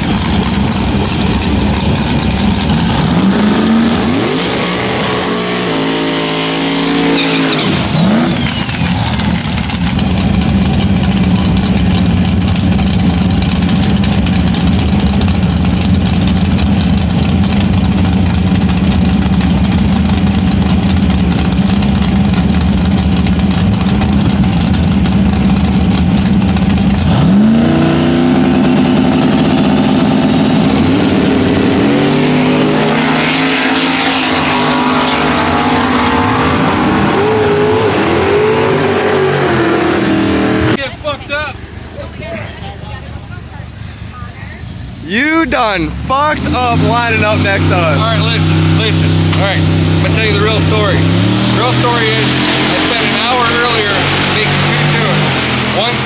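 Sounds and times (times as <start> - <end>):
vehicle engine revving: 0.0 - 40.8, 44.9 - 56.0.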